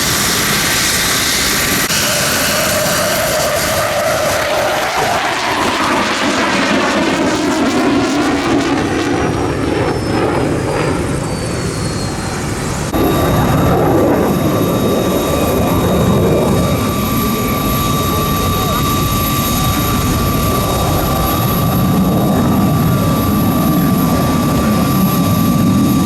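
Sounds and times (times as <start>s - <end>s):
helicopter rotor and engine noise: 0.0s - 26.0s
high turbine whine: 0.0s - 26.0s.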